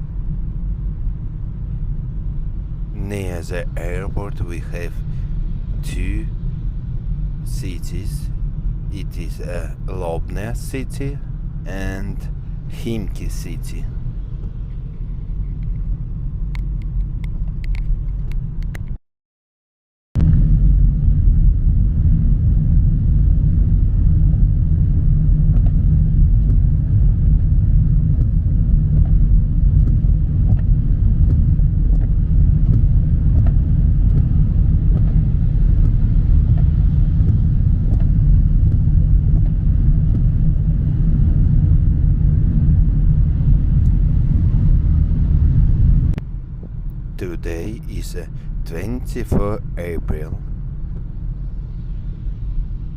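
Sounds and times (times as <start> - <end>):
road rumble inside car: 0.0 - 19.0, 20.2 - 52.9.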